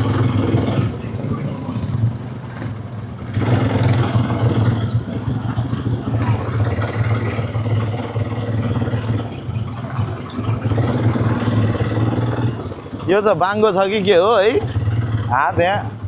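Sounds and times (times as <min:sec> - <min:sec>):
quad bike engine idling: 0:00.0 - 0:16.0.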